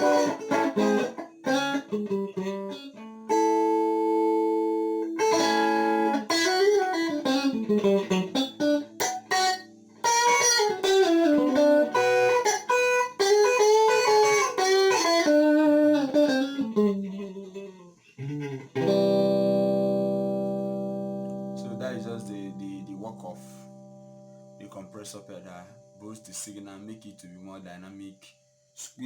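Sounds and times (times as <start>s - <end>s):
electric guitar playing: 0.0s - 17.9s, 18.6s - 26.1s.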